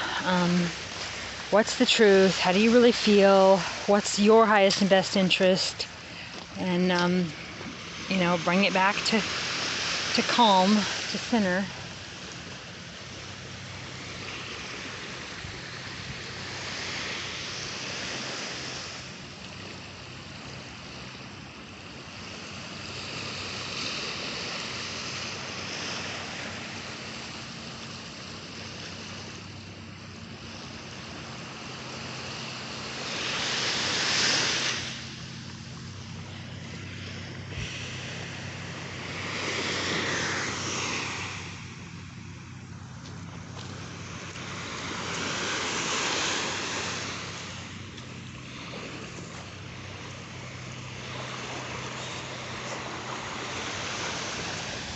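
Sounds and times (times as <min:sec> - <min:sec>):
small waves breaking on shore: 0:00.0 - 0:54.9
steady low hum: 0:00.0 - 0:54.9.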